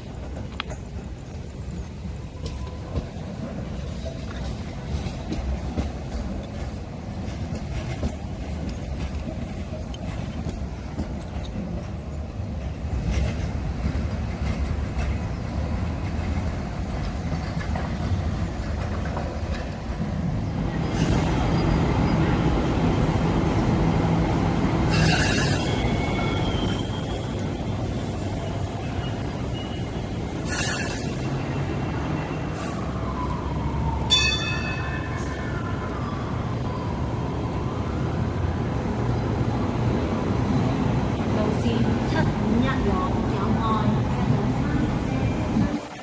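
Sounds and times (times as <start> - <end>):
light rail train rumbling on track: 0.0 - 46.0.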